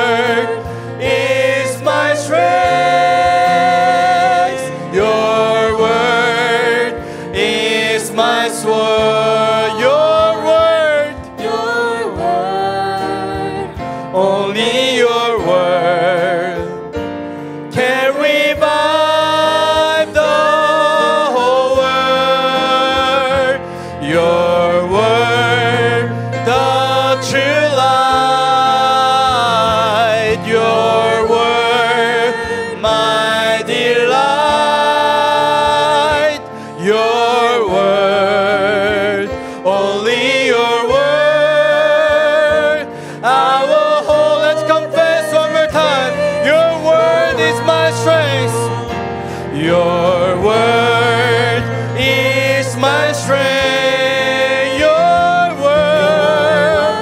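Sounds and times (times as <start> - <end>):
man singing into a microphone: 0.0 - 17.0, 17.7 - 57.0
instrumental backing: 0.0 - 57.0.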